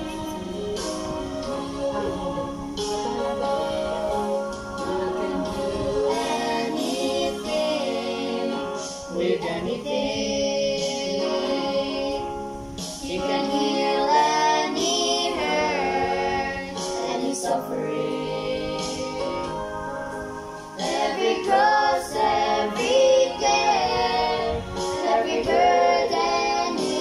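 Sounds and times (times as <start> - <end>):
young voices singing worship song: 0.0 - 27.0.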